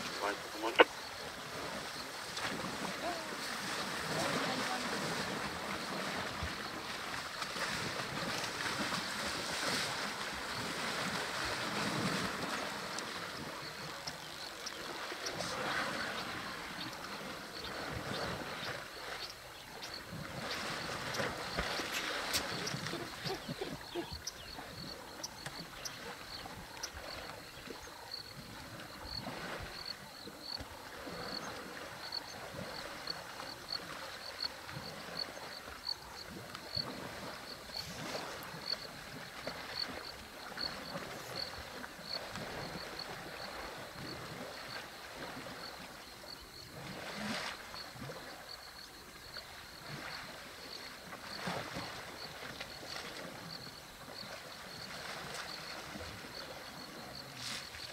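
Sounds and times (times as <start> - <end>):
water sloshing and splashing: 0.0 - 57.9.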